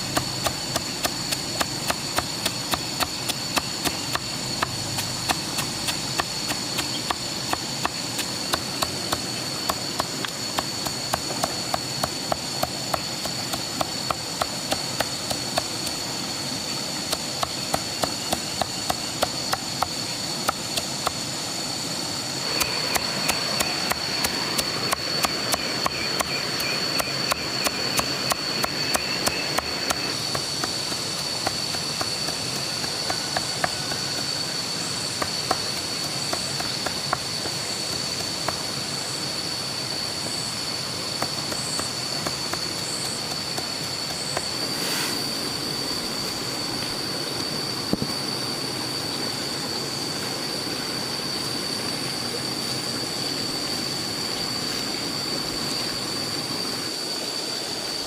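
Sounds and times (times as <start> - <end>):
high-pitched whine: 0.0 - 58.0.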